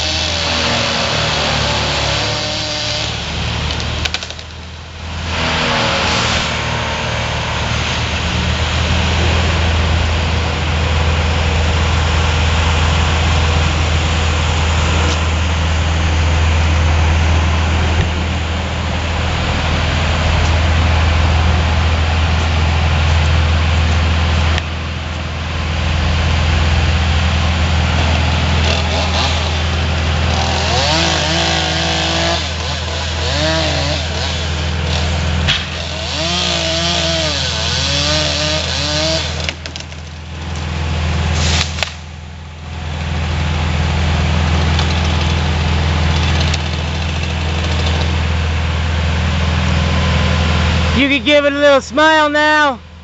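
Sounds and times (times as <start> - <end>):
large engine droning: 0.0 - 53.0.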